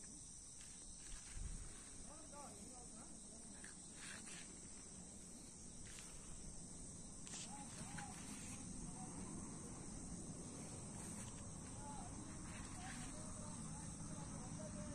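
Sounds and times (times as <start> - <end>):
high-pitched insect chorus: 0.0 - 14.9.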